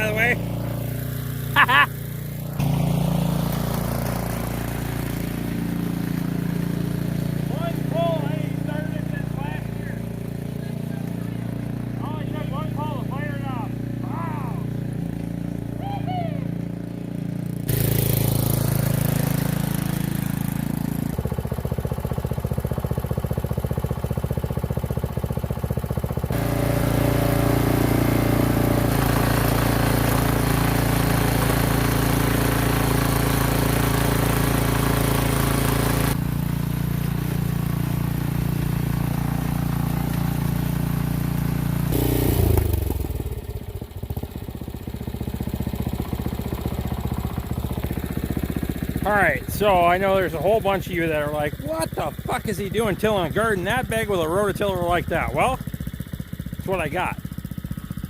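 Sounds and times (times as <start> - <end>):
garden tiller engine running: 0.0 - 58.0.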